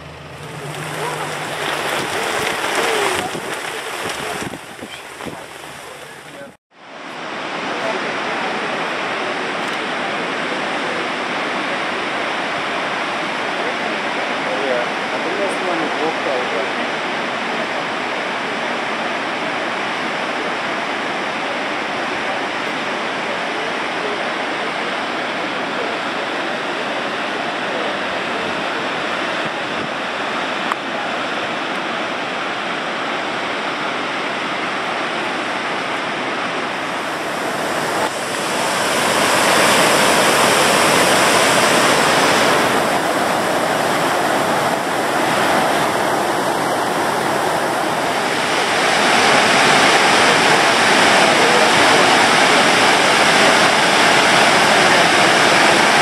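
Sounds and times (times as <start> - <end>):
river rapids: 0.0 - 56.0
waterfall rushing: 0.0 - 56.0.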